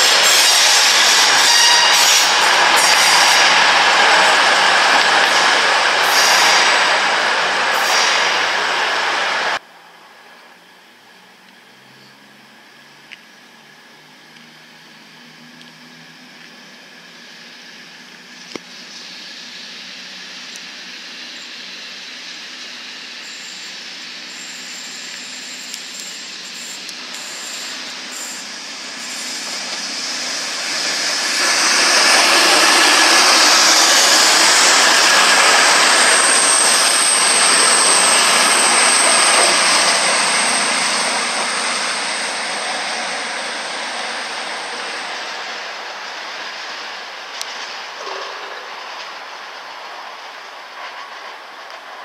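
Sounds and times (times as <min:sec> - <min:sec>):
train wheels on rails: 0:00.0 - 0:09.6, 0:14.4 - 0:52.0
diesel train passing: 0:00.0 - 0:11.4, 0:13.9 - 0:52.0.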